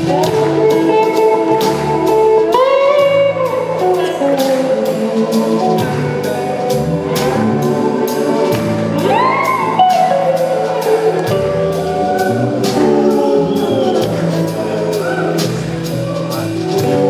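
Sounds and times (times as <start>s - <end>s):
soul-rock band playing live: 0.0s - 17.0s.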